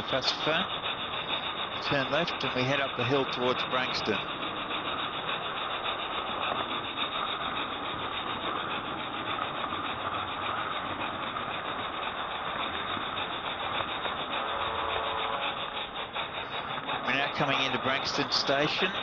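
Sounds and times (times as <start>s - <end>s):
model train rolling with ticking: 0.0s - 19.0s.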